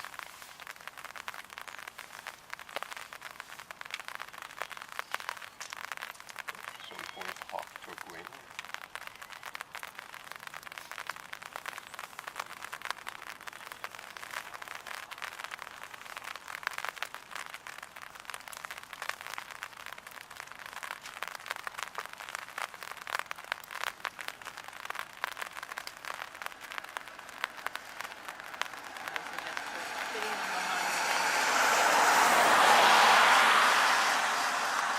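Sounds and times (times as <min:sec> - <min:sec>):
light rain drops ticking: 0:00.0 - 0:34.9.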